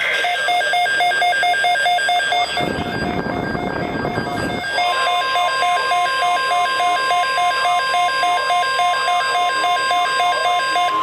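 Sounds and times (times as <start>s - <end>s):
rapidly pulsing electronic beep: 0.0s - 11.0s
steady high alert tone: 0.0s - 11.0s.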